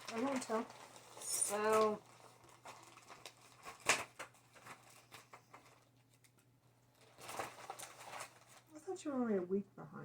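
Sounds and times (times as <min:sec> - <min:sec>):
fabric and paper rustling: 0:00.0 - 0:09.4.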